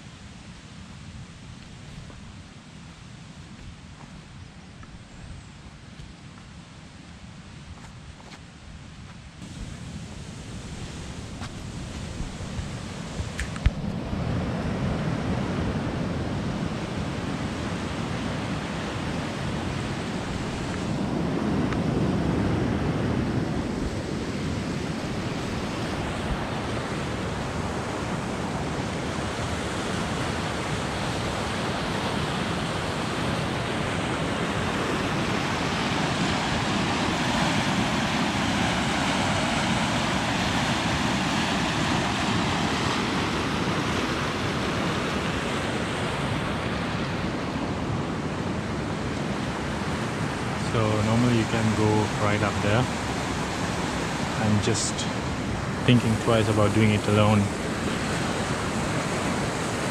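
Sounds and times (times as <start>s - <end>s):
waterfall roaring over rocks: 9.4s - 23.3s, 24.3s - 59.9s.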